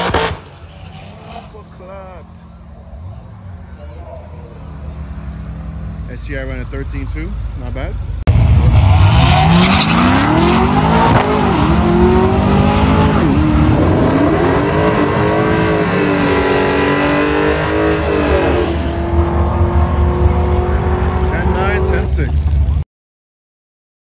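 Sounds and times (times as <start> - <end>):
car accelerating at full throttle: 0.0 - 6.6, 7.5 - 22.8.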